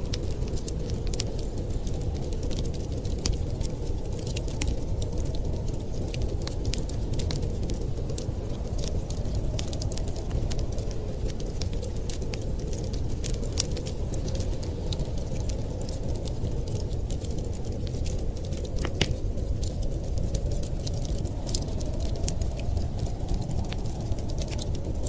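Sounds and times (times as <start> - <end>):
low rumble like wind: 0.0 - 25.0
wood fire crackling and popping: 0.0 - 25.0.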